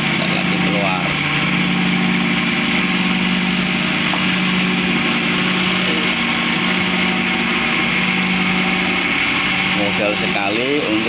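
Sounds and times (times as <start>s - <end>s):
cotton candy machine humming: 0.0s - 11.0s.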